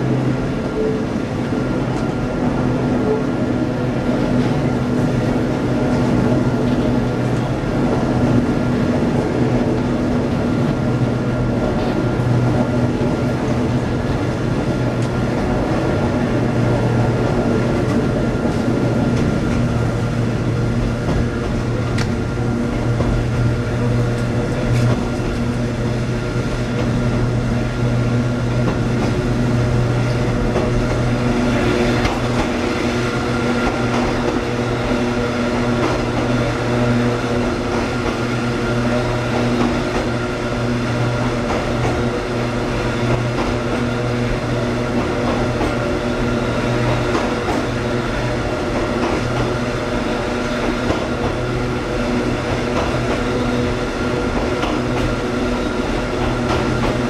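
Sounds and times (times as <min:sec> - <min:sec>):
wheels rumbling on track: 0:00.0 - 0:57.0.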